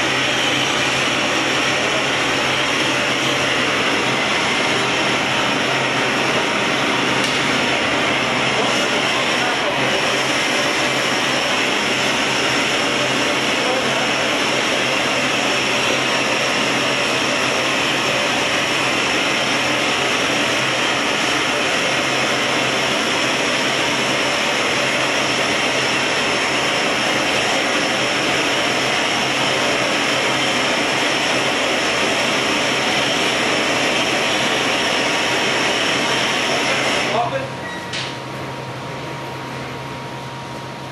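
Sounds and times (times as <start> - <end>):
gas burners rushing: 0.0 - 38.6.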